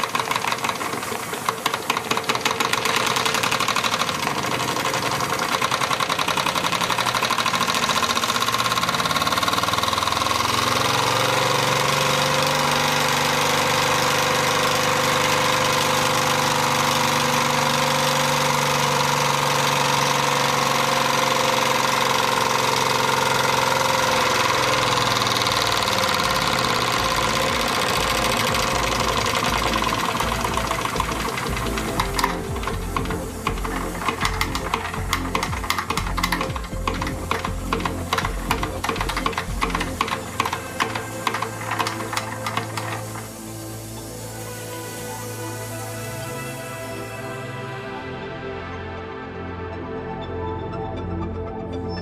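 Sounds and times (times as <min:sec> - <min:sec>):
toy steam engine chuffing: 0:00.0 - 0:44.2
steady hum: 0:00.0 - 0:50.5.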